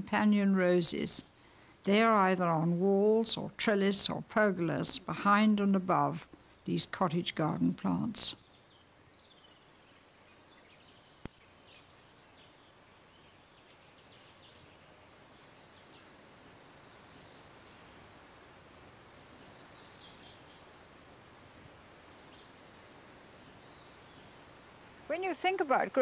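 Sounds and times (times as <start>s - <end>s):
low hiss: 0.0s - 26.0s.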